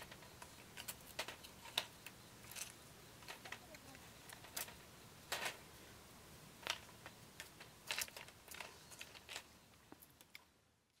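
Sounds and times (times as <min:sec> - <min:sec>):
snails crackling on grill: 0:00.0 - 0:11.0.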